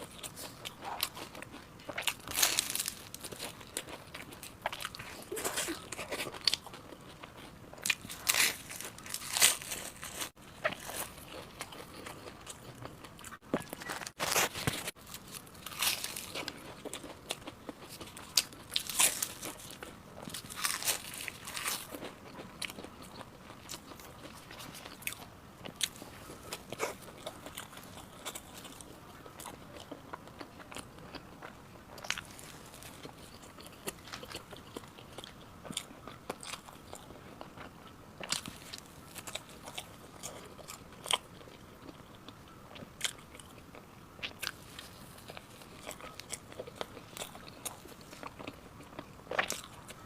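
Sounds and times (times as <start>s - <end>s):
crunchy pastry bites: 0.0s - 42.0s
crackling chewing: 0.0s - 50.0s.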